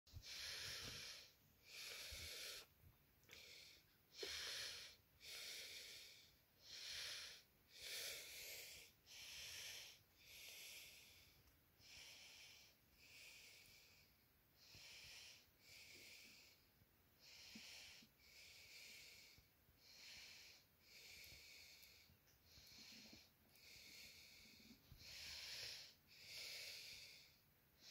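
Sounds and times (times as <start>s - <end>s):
faint breathing: 0.1s - 27.9s.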